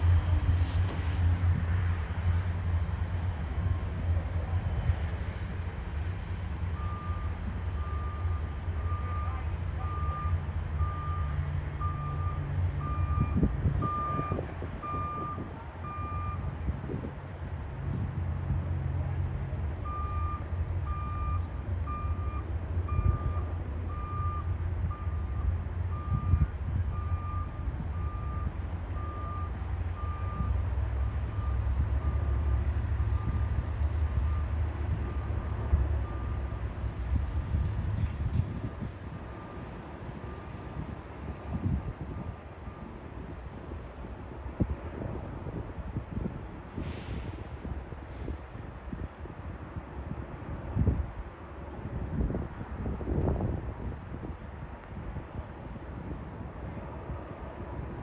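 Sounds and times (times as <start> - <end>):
propeller engines droning overhead: 0.0 - 58.0.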